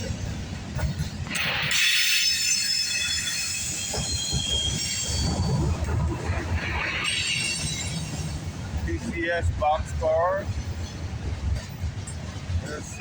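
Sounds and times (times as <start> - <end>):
train wheels squealing on rails: 0.0 - 9.3, 11.6 - 13.0.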